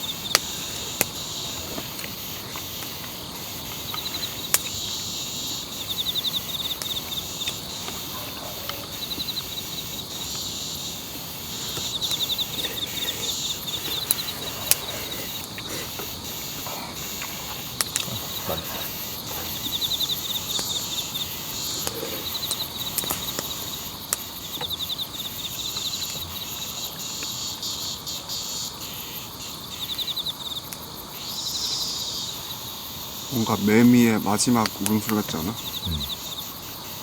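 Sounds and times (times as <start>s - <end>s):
high-pitched insect hiss: 0.0s - 37.0s
insect pulsed trills: 0.0s - 37.0s.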